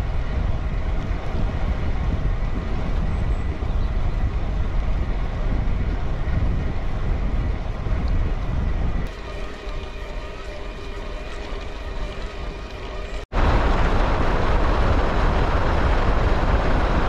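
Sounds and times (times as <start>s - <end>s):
bicycle tyres on tarmac: 0.0s - 17.0s
wind buffeting microphone: 0.0s - 17.0s.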